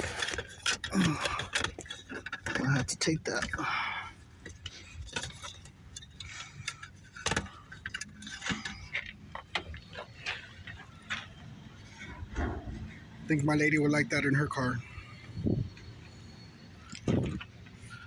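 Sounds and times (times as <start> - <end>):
hard parts clicking and rattling: 0.0 - 18.0.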